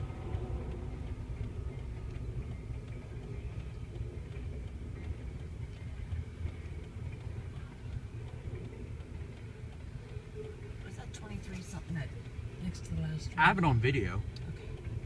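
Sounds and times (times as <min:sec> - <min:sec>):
faint clicks: 0:00.0 - 0:13.0
muffled freight train rumble: 0:00.0 - 0:13.5.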